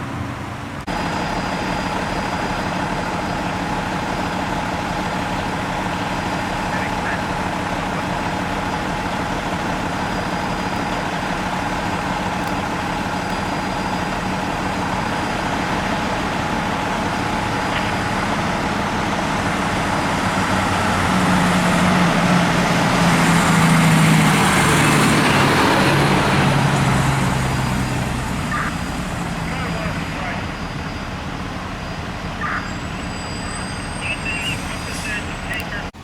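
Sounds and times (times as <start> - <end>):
fire truck engine running: 0.0 - 36.0.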